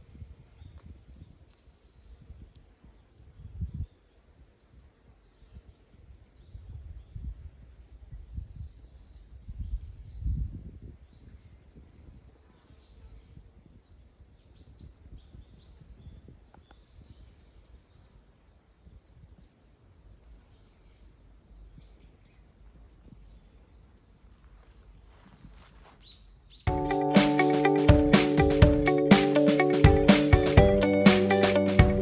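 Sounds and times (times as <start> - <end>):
soft bird chirps: 0.0 - 26.7.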